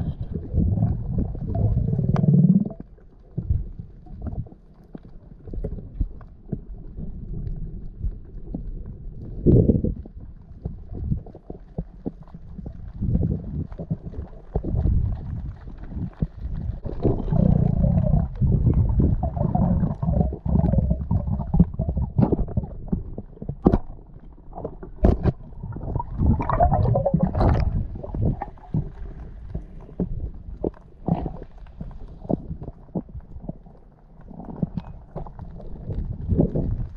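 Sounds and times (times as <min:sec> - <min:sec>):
underwater rush of water: 0:00.0 - 0:36.9.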